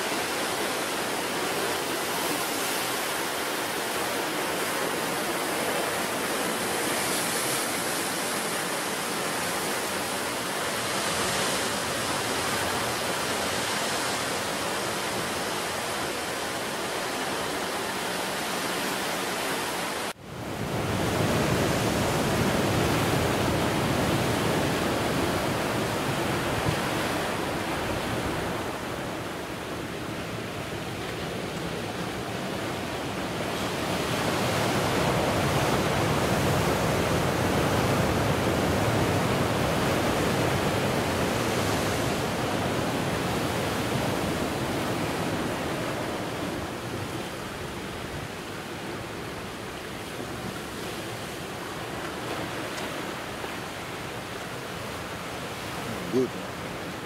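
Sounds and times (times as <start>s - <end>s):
sea surf washing: 0.0s - 57.0s.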